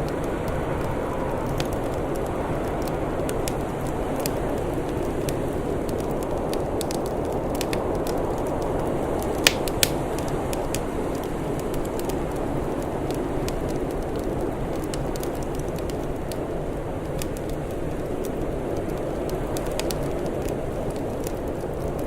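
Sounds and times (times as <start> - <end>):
sharp pops of fire: 0.0 - 22.0
wood fire crackling: 0.0 - 22.0.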